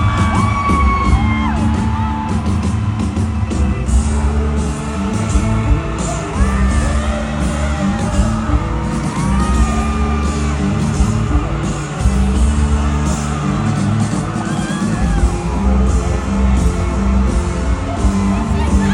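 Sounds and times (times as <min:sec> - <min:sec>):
amplified live concert music: 0:00.0 - 0:18.9
crowd yelling and whooping: 0:00.0 - 0:18.9.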